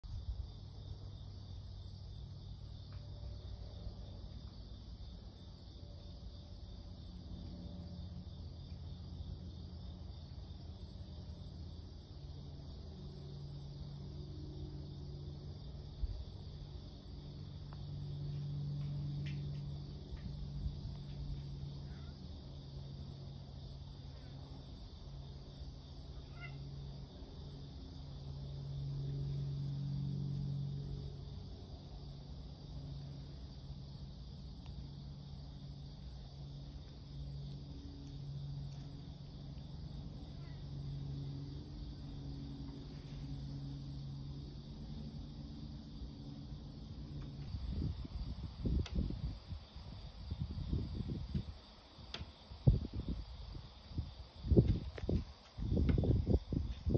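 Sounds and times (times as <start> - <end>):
insects chirping: 0.0 - 56.9
low steady hum: 0.0 - 56.9.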